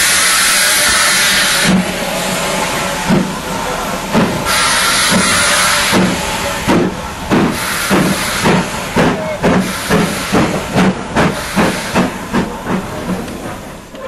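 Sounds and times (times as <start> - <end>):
steam hissing: 0.0 - 14.0
steam locomotive exhaust chuffs: 0.0 - 14.0.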